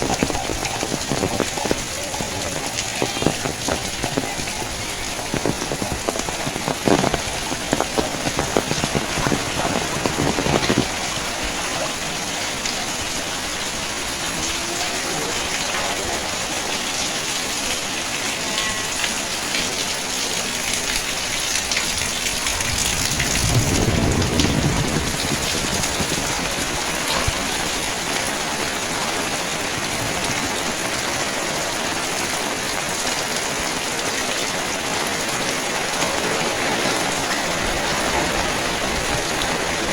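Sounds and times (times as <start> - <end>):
heavy rain splashing: 0.0 - 39.9.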